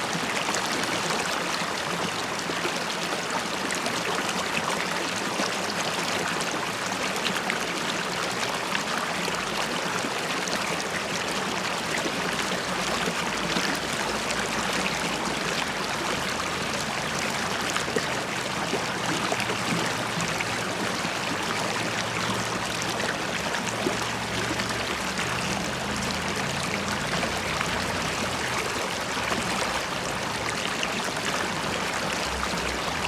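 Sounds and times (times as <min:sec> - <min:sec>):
river water bubbling over stones: 0:00.0 - 0:33.0.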